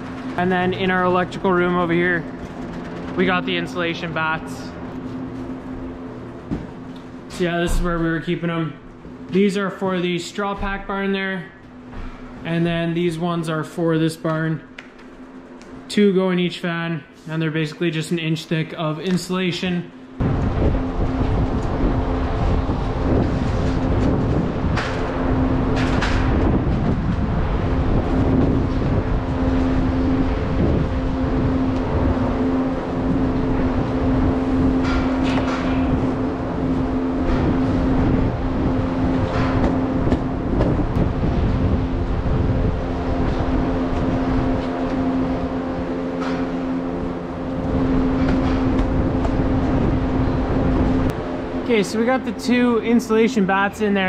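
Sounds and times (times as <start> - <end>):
ventilation fans humming: 0.0 - 54.0.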